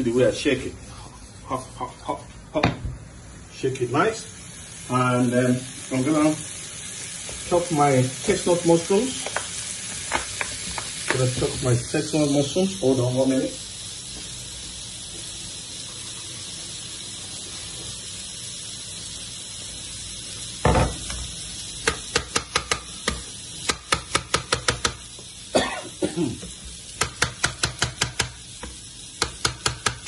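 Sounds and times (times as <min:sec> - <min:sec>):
frying sizzle: 0:00.0 - 0:30.0.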